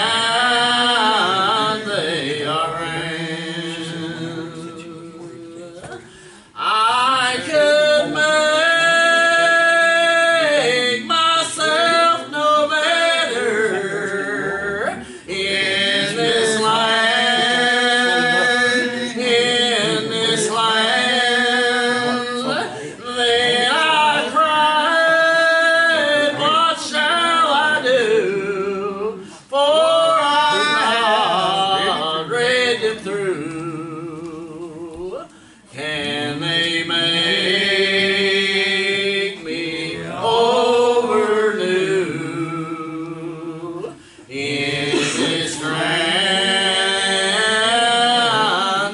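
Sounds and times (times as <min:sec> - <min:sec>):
voices singing a hymn: 0:00.0 - 0:48.9.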